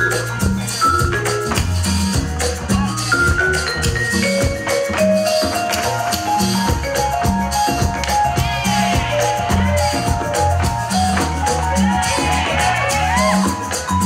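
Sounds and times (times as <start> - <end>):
dance music with steady beat: 0.0 - 14.0.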